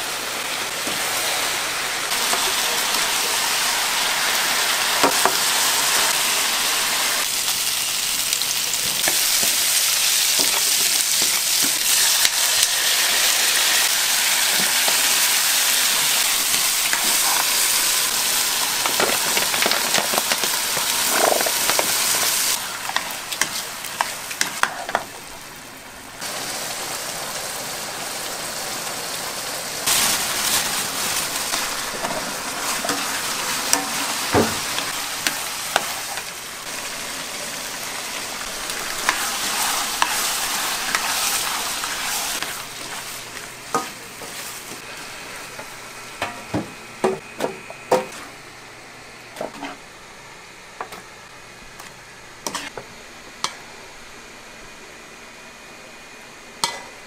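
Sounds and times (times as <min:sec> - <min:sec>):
food sizzling in a pan: 0:00.0 - 0:46.2.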